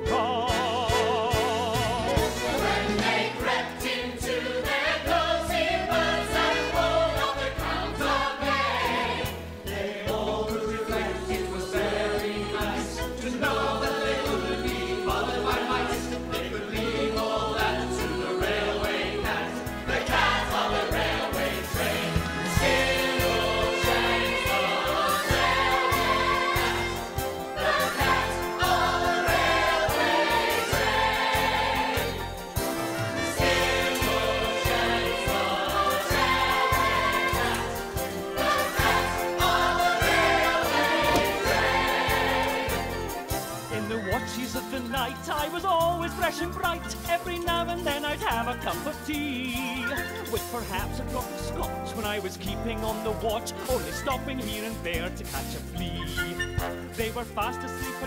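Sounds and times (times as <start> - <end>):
ensemble voices singing: 0.0 - 58.0
musical theatre band music: 0.0 - 58.0.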